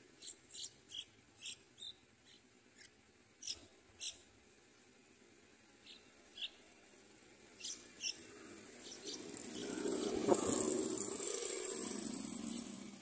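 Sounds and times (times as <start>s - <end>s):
nestlings high begging calls: 0.1s - 4.3s, 5.8s - 6.7s, 7.5s - 12.9s.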